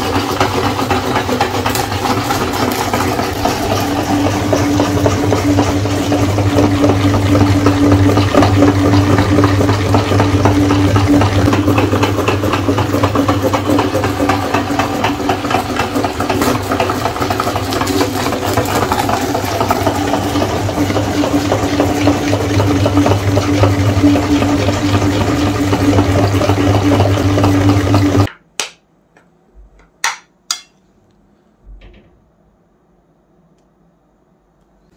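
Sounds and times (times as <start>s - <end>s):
meat grinder motor humming: 0.0s - 28.3s.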